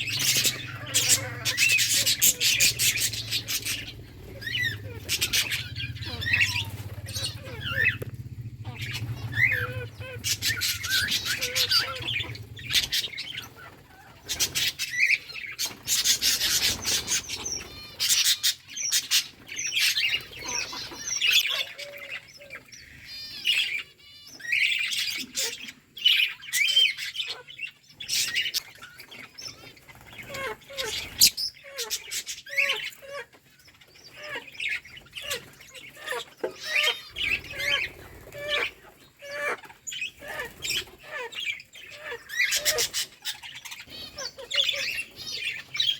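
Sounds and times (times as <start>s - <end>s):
budgerigars chirping and warbling: 0.0s - 45.9s.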